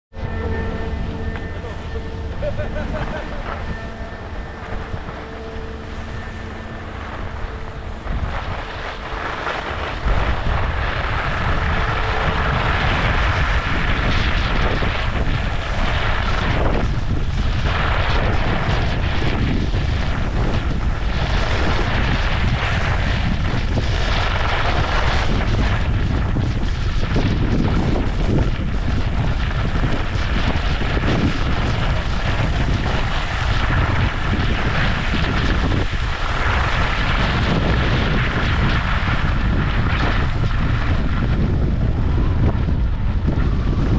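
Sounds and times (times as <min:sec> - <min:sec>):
wind buffeting microphone: 0:00.1 - 0:43.9
skis scraping on hard snow: 0:01.3 - 0:41.4.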